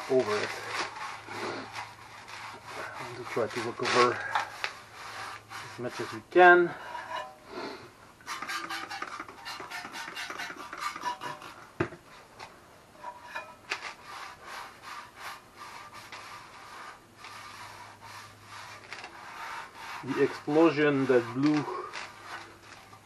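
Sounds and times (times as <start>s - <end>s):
cloth scrubbing metal: 0.0s - 7.4s, 8.2s - 11.6s, 13.0s - 23.0s.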